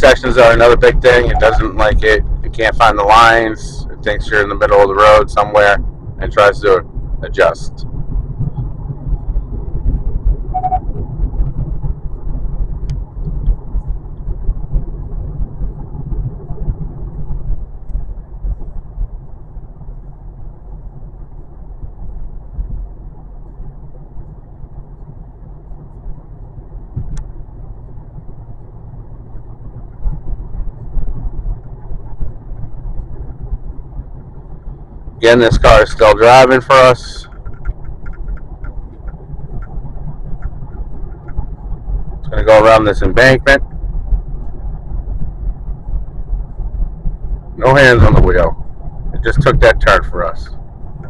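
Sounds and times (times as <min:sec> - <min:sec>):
tyre and engine rumble: 0:00.0 - 0:51.0.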